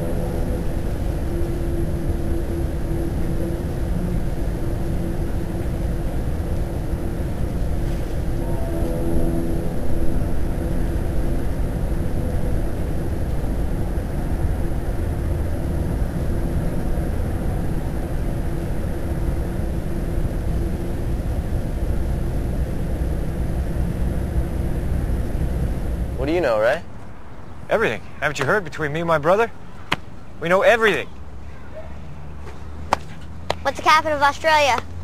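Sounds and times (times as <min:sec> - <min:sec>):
low rumbling noise: 0:00.0 - 0:35.0.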